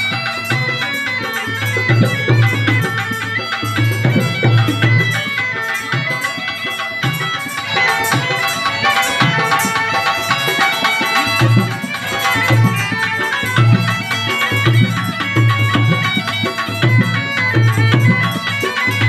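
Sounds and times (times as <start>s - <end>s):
steady drumbeat: 0.0s - 19.0s.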